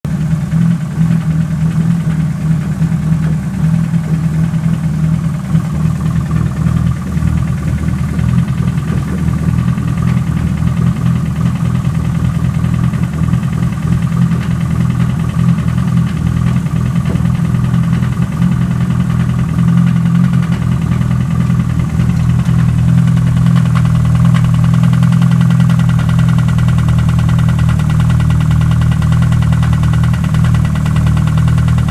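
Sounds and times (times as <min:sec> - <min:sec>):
abnormal engine noise: 0:00.0 - 0:31.9
car engine running: 0:00.0 - 0:31.9.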